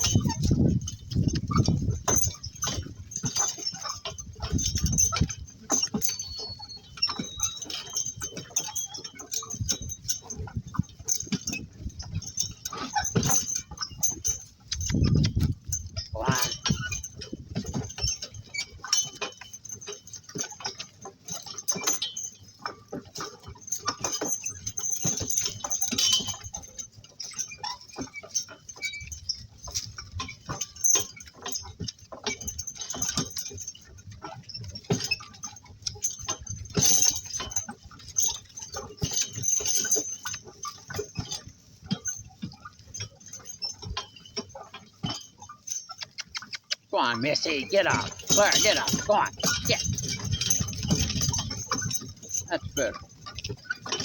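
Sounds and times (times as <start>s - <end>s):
cart rattling and knocking: 0.0s - 54.0s.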